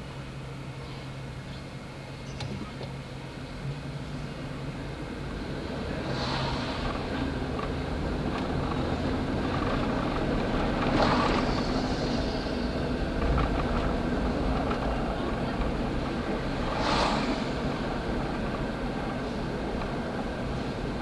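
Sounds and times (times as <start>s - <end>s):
streetcar rumbling along track: 0.0s - 21.0s.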